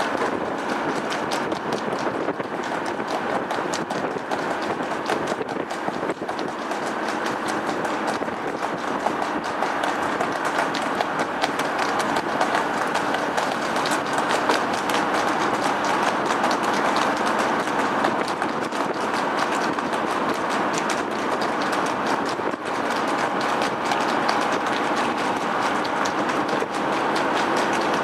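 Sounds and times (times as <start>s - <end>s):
horse hooves trotting on wet road: 0.0s - 28.0s
vehicle engine and tyre noise: 0.0s - 28.0s.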